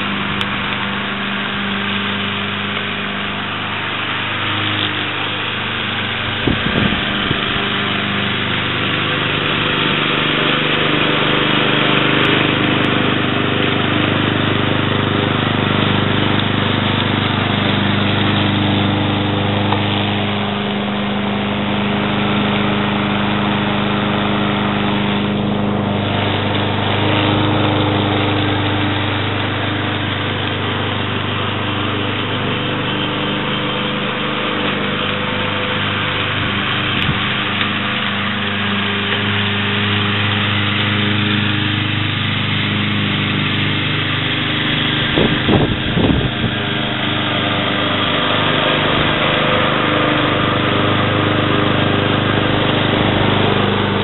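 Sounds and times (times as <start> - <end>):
lawn mower engine running: 0.0 - 54.0.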